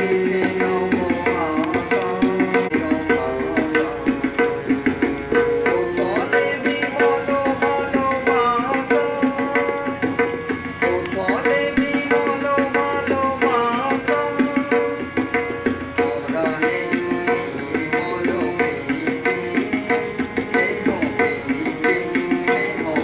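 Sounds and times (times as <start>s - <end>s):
folk dance melody: 0.0s - 23.0s
hand drum beat: 0.0s - 23.0s.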